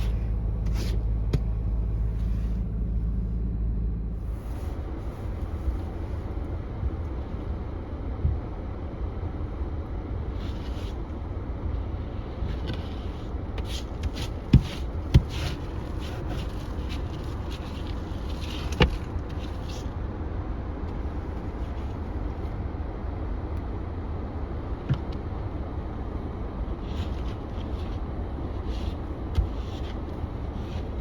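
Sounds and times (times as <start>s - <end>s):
vehicle rumbling in motion: 0.0s - 31.0s.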